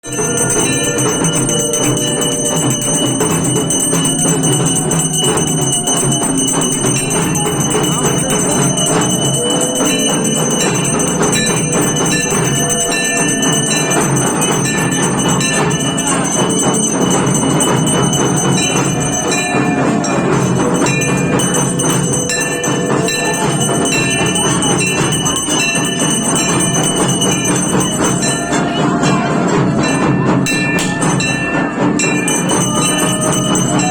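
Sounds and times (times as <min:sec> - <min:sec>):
temple bells ringing: 0:00.0 - 0:33.9.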